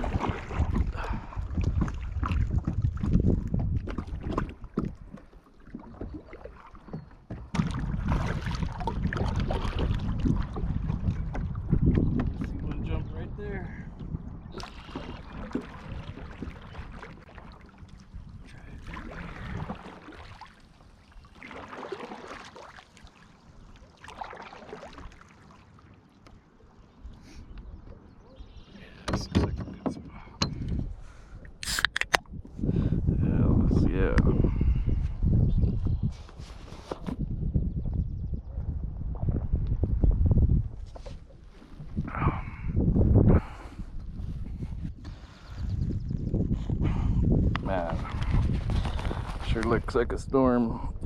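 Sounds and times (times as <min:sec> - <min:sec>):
wind on microphone: 0:00.0 - 0:06.3, 0:06.9 - 0:19.9, 0:27.0 - 0:51.0
water sloshing against hull: 0:00.0 - 0:50.2.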